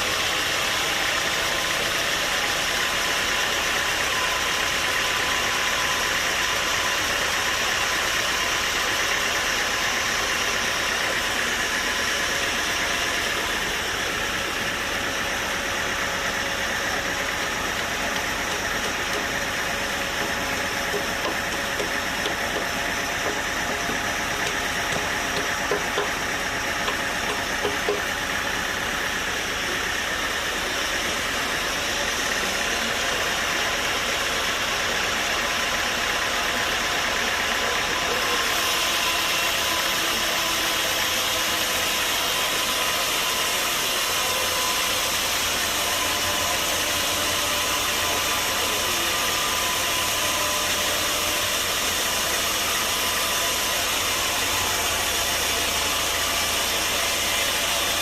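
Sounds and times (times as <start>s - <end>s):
saw machinery humming and whining: 0.0s - 58.0s.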